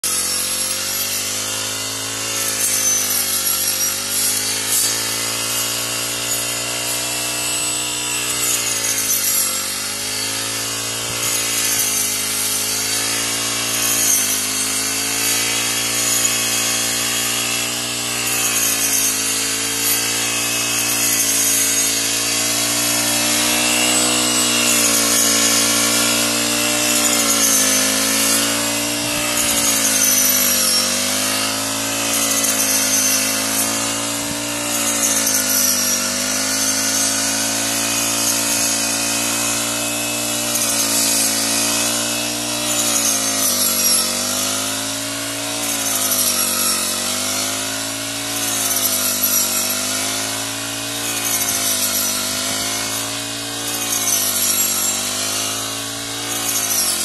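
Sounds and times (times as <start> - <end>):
blade cutting rice stalks: 0.0 - 57.0
brush cutter engine running: 0.0 - 57.0.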